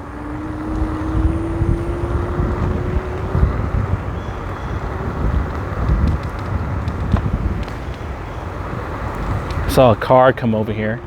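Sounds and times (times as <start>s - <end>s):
scooter tyre rumble: 0.0s - 11.0s
wind buffeting microphone: 0.0s - 11.0s.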